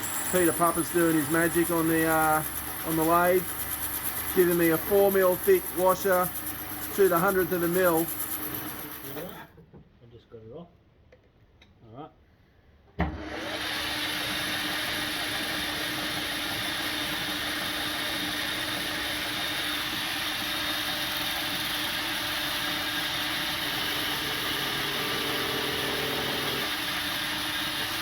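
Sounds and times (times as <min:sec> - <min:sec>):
metal lathe humming and hissing: 0:00.0 - 0:09.4, 0:13.4 - 0:28.0.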